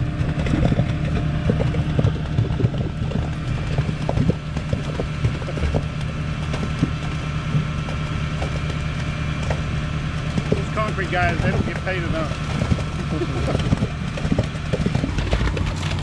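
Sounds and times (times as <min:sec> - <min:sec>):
knocks and rattles of concrete: 0:00.0 - 0:16.0
pump engine hum: 0:00.0 - 0:16.0.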